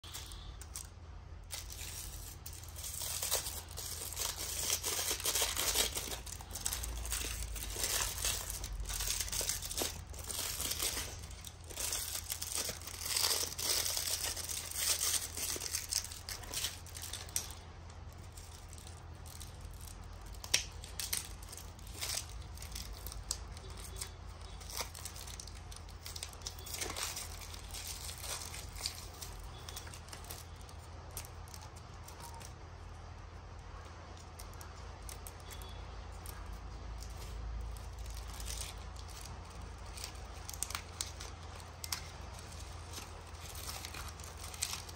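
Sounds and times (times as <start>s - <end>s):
plastic wrapping crinkling: 0.0s - 44.9s
steady low hum: 0.0s - 44.9s.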